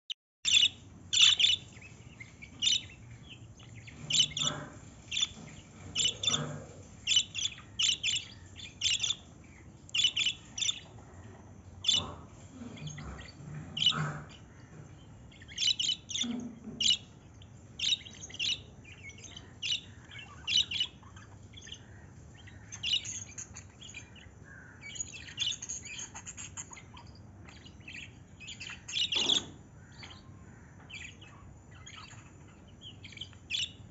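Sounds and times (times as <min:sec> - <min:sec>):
bird chirping: 0:00.5 - 0:33.9.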